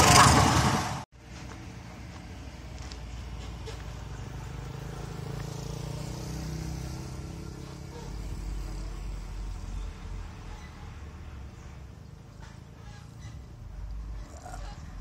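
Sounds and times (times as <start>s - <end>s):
passing vehicle engines: 0.0s - 15.0s
truck engine rumble: 0.0s - 15.0s.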